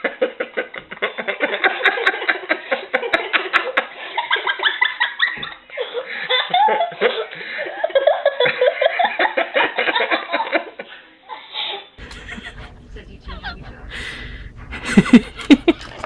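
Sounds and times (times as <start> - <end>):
high-pitched laughter and giggling: 0.0 - 13.8, 14.7 - 16.0.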